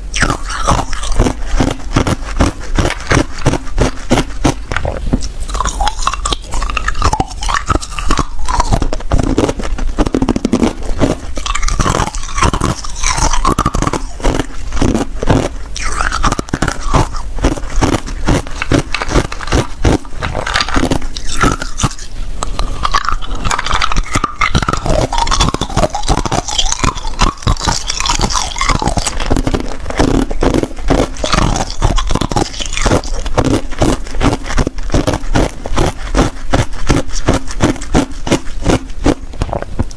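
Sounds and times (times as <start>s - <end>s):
ice crunching while chewed: 0.1s - 39.9s.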